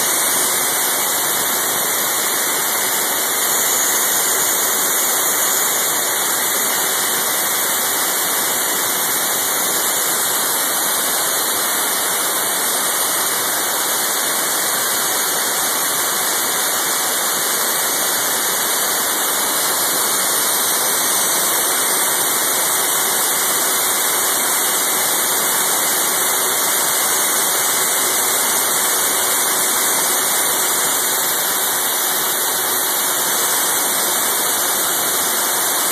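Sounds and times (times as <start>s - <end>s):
compressed air hissing through turbine: 0.0s - 35.9s.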